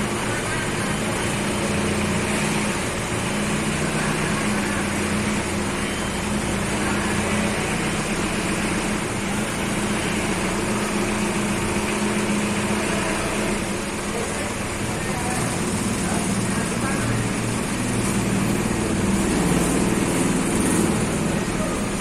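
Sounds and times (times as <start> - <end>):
forklift engine humming: 0.0 - 22.0.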